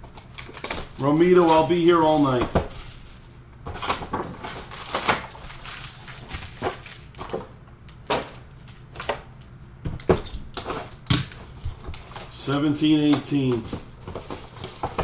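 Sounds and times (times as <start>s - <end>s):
boxes and packs knocking and rustling: 0.3s - 9.2s, 9.8s - 15.0s.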